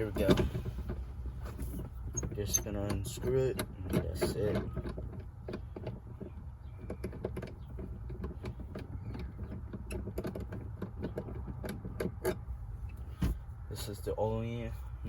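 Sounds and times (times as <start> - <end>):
small clicks and rattles: 0.0 - 13.2.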